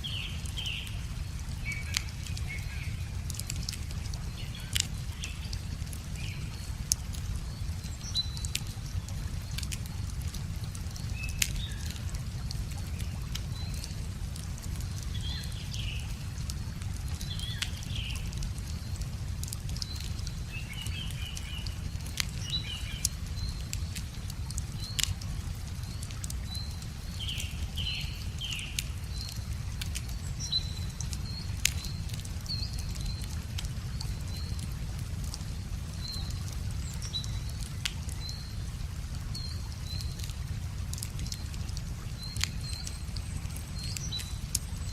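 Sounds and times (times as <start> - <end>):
small birds chirping: 0.0 - 44.9
wood fire crackling and popping: 0.3 - 44.9.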